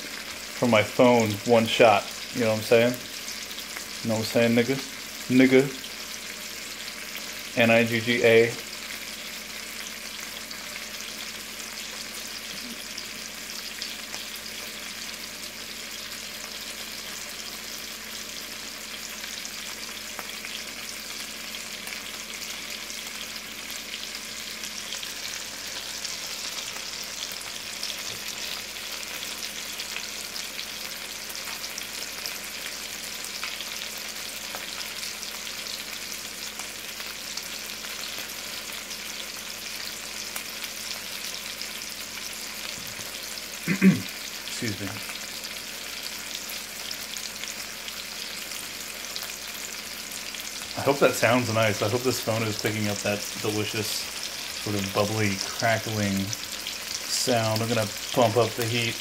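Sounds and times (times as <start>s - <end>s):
chicken sizzling in a pan: 0.0s - 59.0s.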